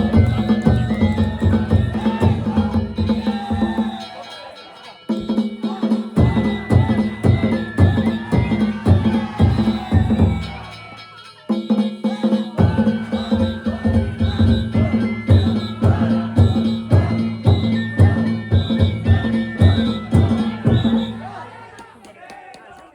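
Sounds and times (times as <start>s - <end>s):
taiko drums: 0.0s - 4.3s, 5.1s - 21.5s
ringing gongs: 0.0s - 21.6s.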